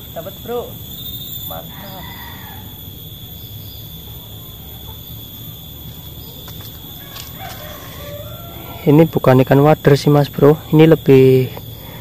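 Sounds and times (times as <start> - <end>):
insects droning: 0.0 - 12.0
low outdoor hum: 0.0 - 12.0.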